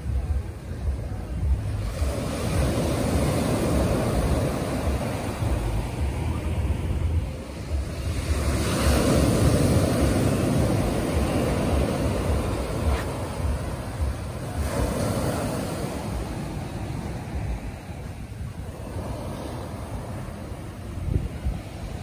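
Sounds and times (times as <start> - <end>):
small waves breaking on beach: 0.0 - 22.0
wind rumbling on microphone: 0.0 - 22.0.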